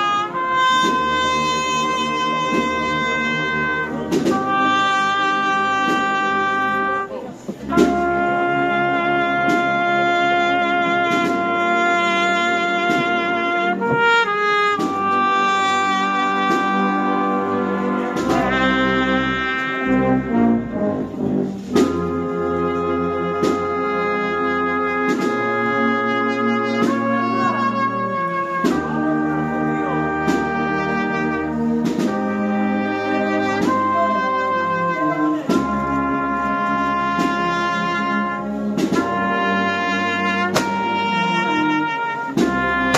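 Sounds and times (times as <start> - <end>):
brass band playing slow march: 0.0 - 42.9.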